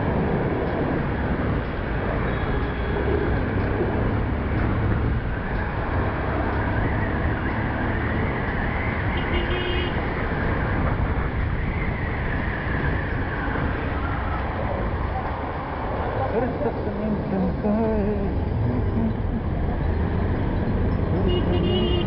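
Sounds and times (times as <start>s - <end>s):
traffic noise: 0.0s - 22.0s
motorcycle engine drone: 1.0s - 22.0s.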